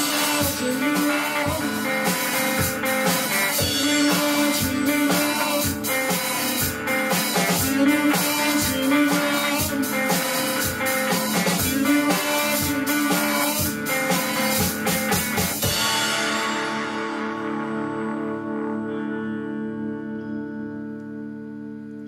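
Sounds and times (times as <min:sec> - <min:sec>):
drum kit beat: 0:00.0 - 0:17.8
electric guitar: 0:00.0 - 0:22.0.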